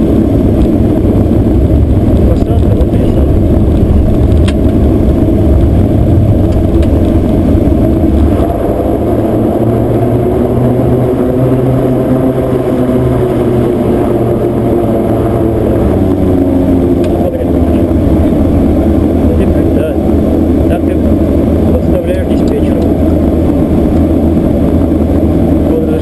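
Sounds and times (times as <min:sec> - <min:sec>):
turboprop engines droning: 0:00.0 - 0:26.0.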